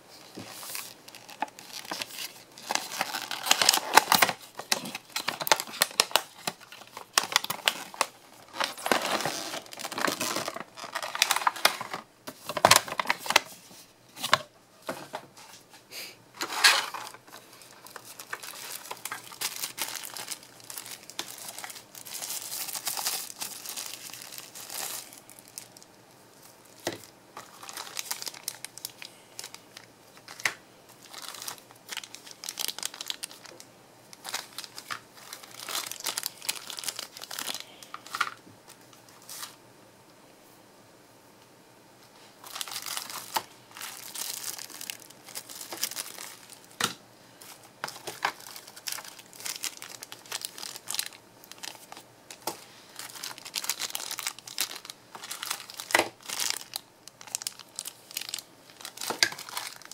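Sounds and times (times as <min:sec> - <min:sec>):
plastic packaging crinkling: 0:00.2 - 0:13.6, 0:16.4 - 0:39.6, 0:42.4 - 0:59.9.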